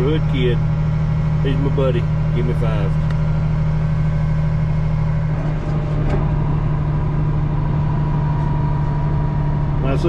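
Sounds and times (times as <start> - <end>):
tractor engine humming: 0.0 - 10.0.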